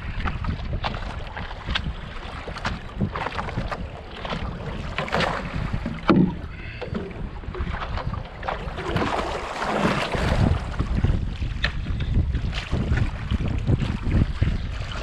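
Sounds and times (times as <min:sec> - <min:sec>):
wind buffeting microphone: 0:00.0 - 0:15.0
water splashing against board: 0:00.2 - 0:15.0.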